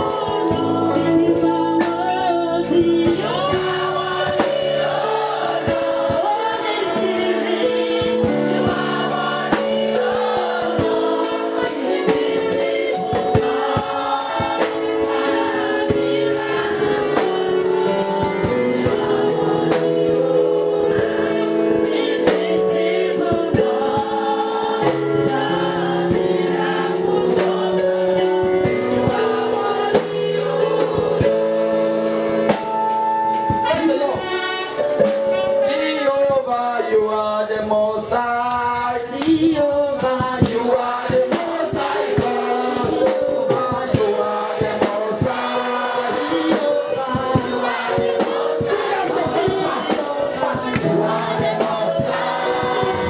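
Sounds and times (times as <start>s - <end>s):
band accompaniment with steady beat: 0.0s - 53.0s
gospel choir singing: 0.0s - 53.0s.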